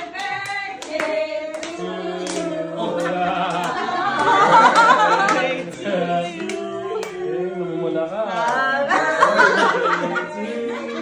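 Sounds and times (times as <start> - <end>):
people clapping: 0.0 - 7.2, 8.3 - 10.2
group singing: 0.0 - 11.0.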